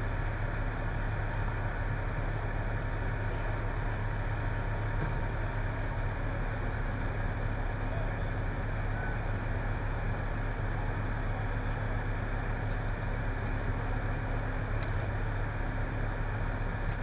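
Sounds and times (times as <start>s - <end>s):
vehicle engines idling: 0.0s - 17.0s.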